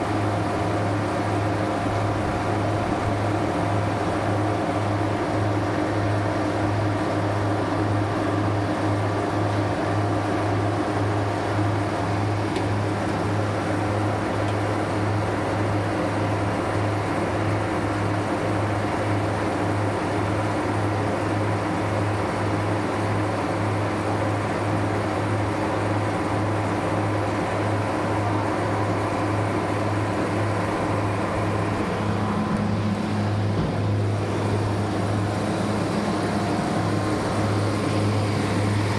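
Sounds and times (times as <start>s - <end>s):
refrigeration unit humming: 0.0s - 38.9s.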